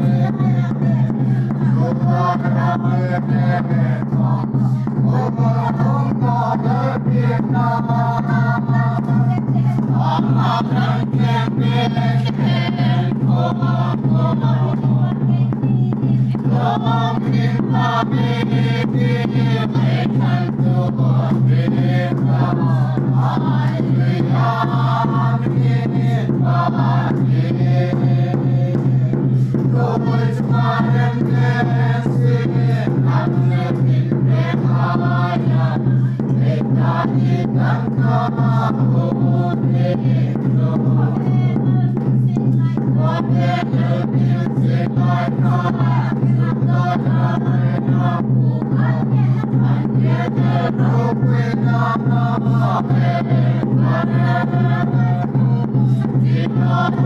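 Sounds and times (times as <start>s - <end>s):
congregation singing a hymn: 0.0s - 15.3s, 15.9s - 42.0s, 42.8s - 57.0s
drum beating steadily: 0.0s - 57.0s.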